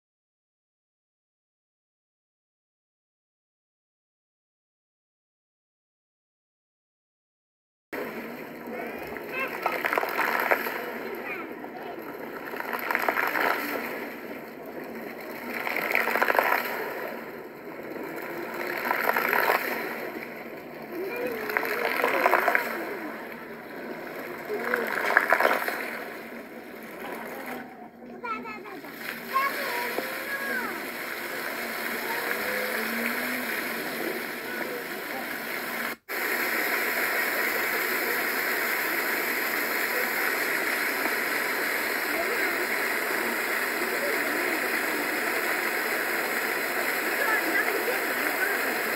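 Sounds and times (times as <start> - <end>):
fountain water splashing: 8.0 - 48.9.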